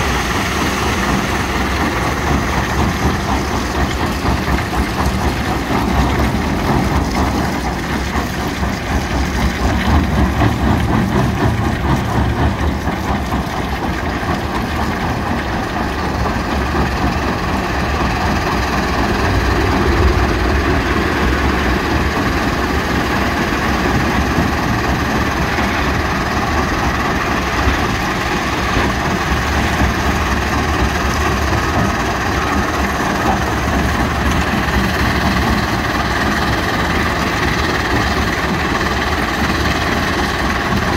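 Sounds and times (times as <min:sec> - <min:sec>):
excavator engine: 0:00.0 - 0:40.9
rock crusher rumbling: 0:00.0 - 0:40.9.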